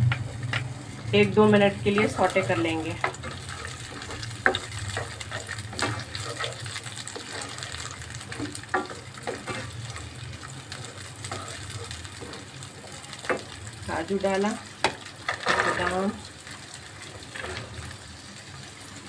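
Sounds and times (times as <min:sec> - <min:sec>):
nuts sizzling in oil: 0:00.0 - 0:19.0
spatula scraping pan: 0:00.2 - 0:13.8, 0:14.8 - 0:18.0.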